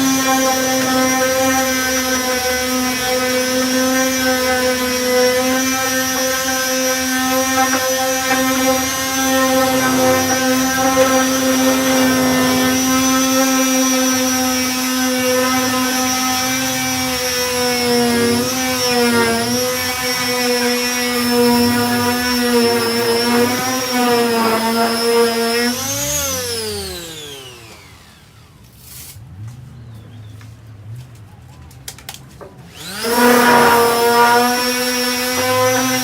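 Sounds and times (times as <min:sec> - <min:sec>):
disc sander motor: 0:00.0 - 0:29.2, 0:32.7 - 0:36.0.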